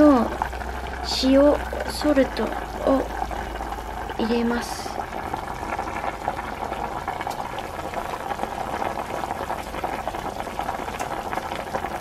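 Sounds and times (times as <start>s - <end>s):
broth boiling hard in a pot: 0.0s - 12.0s.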